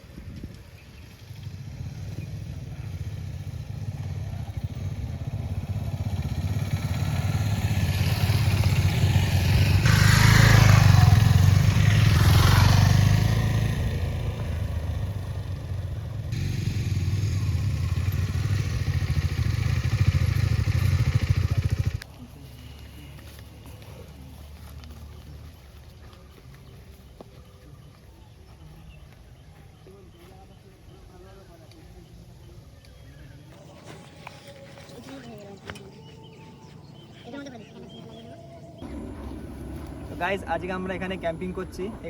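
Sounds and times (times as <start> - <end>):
vehicle engine running: 1.0 - 42.0.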